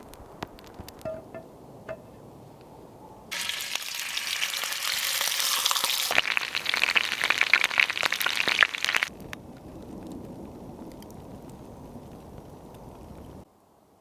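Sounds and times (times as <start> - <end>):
fire crackling and hissing: 0.0 - 1.8, 2.5 - 13.4.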